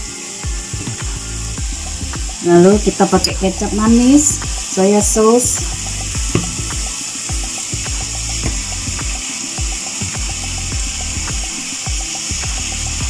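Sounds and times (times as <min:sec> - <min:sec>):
background music: 0:00.0 - 0:13.0
food sizzling in a frying pan: 0:00.0 - 0:13.0.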